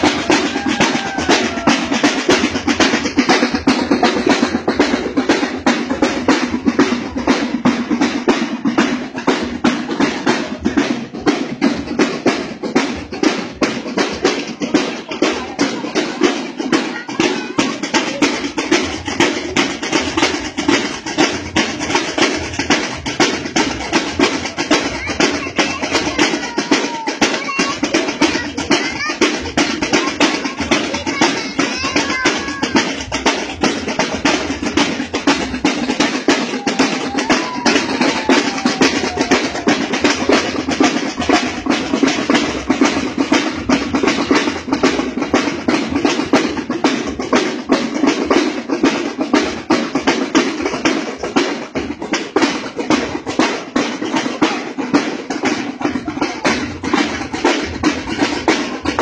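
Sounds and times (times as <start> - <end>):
snare and bass drums marching: 0.0 - 59.0.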